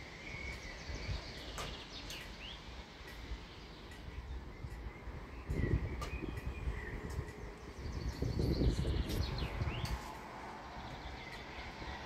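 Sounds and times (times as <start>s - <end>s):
birds chirping: 0.0s - 12.0s
wind buffeting microphone: 0.0s - 12.0s.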